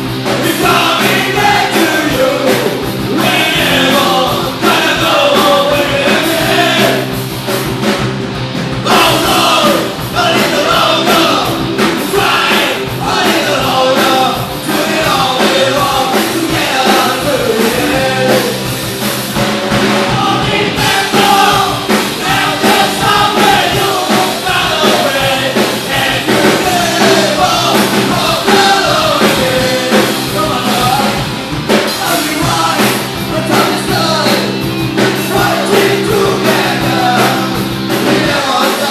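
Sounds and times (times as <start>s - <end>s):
punk rock song: 0.0s - 38.9s
person singing: 0.3s - 7.1s, 8.8s - 18.7s, 20.0s - 31.3s, 31.9s - 38.9s.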